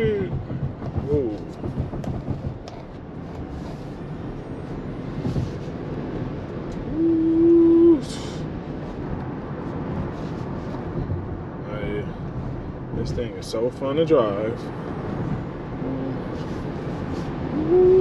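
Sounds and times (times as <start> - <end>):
road and tyre noise: 0.0 - 18.0.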